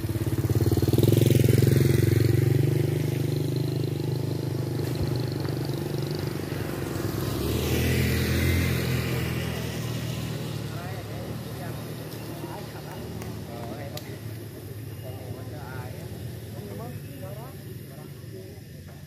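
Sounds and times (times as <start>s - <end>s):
motorcycle engine passing: 0.0s - 19.0s.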